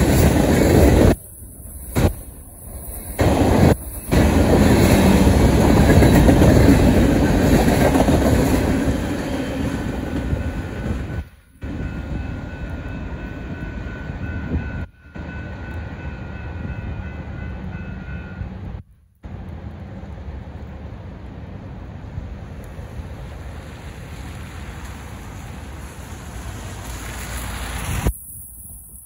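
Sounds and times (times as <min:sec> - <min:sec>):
freight train cars rumbling: 0:00.0 - 0:29.0.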